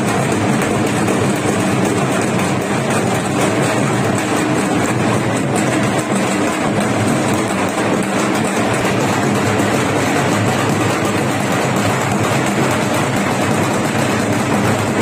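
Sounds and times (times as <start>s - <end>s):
drums beating: 0.0s - 15.0s
large crowd noise: 0.0s - 15.0s.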